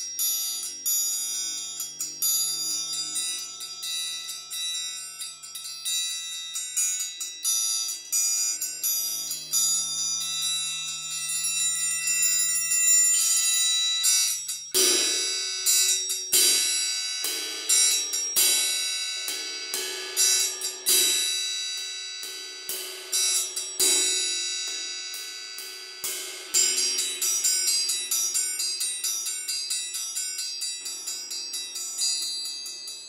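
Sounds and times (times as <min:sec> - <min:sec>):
triangles ringing: 0:00.0 - 0:33.0.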